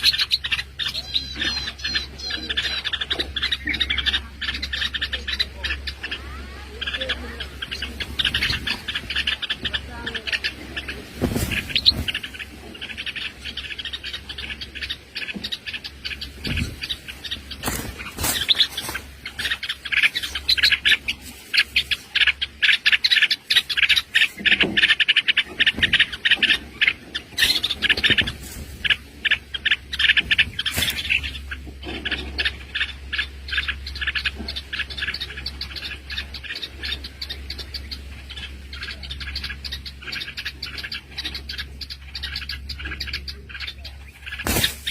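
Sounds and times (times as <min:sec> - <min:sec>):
small birds chirping rapidly: 0:00.0 - 0:44.9.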